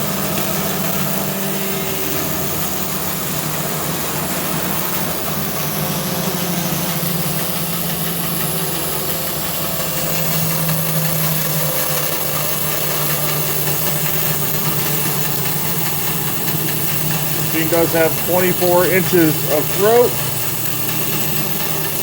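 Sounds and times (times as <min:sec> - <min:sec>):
bandsaw running: 0:00.0 - 0:22.0.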